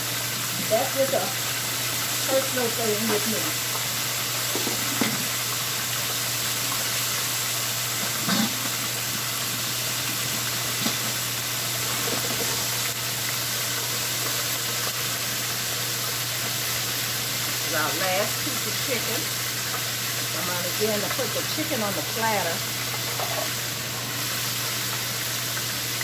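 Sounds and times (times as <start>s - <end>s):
chicken frying in oil: 0.0s - 26.0s
fryer low hum: 0.0s - 26.0s.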